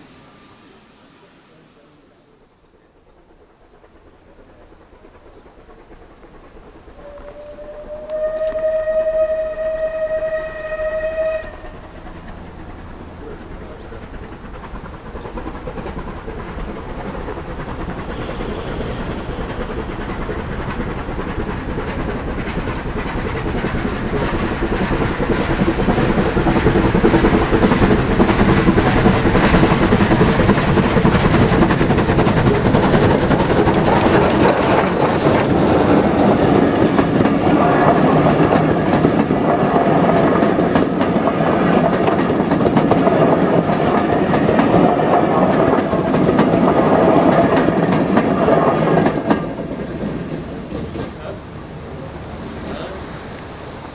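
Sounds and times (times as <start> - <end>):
steam train running past: 0.0 - 53.9
wheels clicking over rail joints: 2.8 - 53.9.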